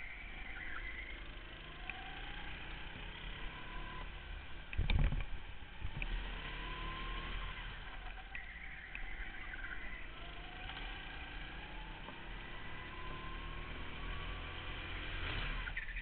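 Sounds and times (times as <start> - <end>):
go-kart engine drone: 0.0 - 16.0.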